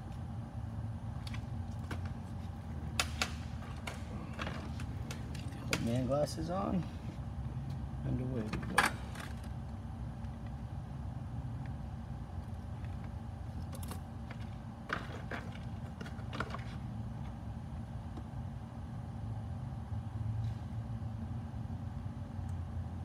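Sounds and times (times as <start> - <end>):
workshop hum: 0.0 - 23.0.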